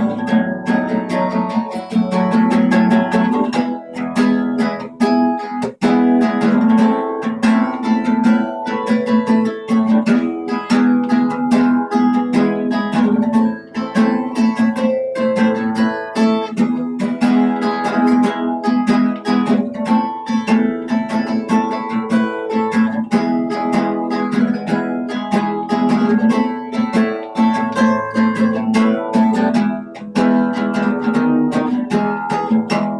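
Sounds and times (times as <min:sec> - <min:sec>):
acoustic guitar music: 0:00.0 - 0:32.9.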